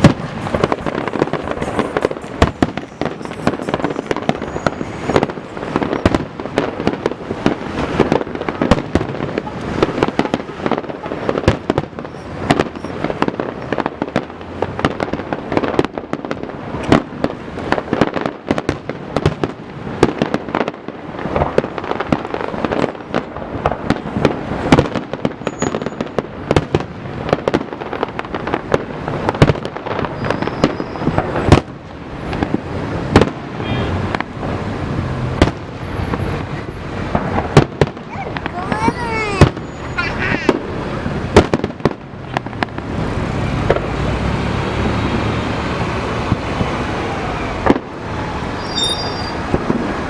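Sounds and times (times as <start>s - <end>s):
fireworks bangs and crackles: 0.0s - 50.0s
loud fireworks booms: 0.0s - 50.0s.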